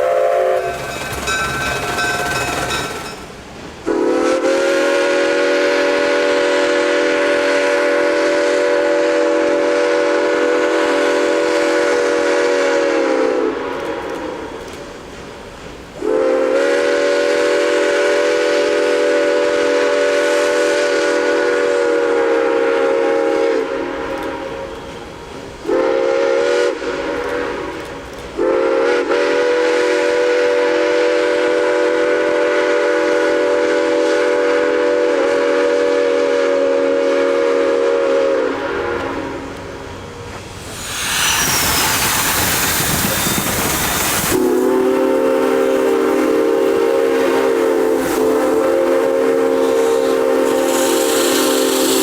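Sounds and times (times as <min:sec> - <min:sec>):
steam locomotive whistle: 0:00.0 - 0:14.6, 0:16.0 - 0:39.9, 0:40.6 - 0:52.0.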